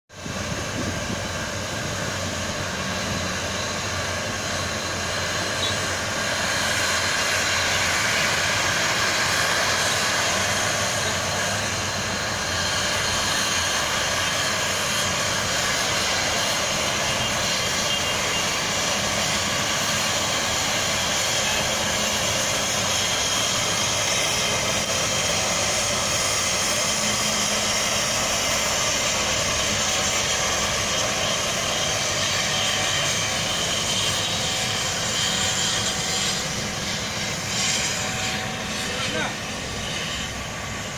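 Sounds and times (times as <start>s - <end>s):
steam locomotive moving slowly: 0.1s - 40.9s
steam hissing: 0.2s - 40.9s.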